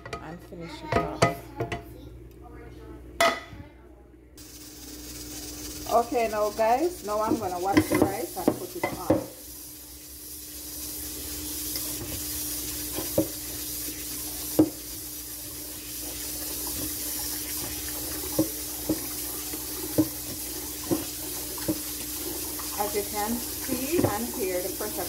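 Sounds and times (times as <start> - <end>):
pressure cooker hissing: 4.4 - 25.0.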